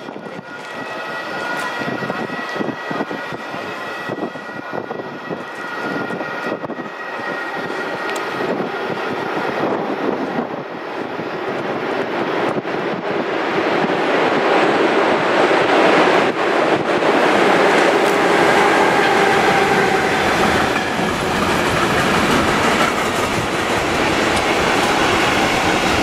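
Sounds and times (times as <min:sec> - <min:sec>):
train approaching: 0:00.0 - 0:26.0.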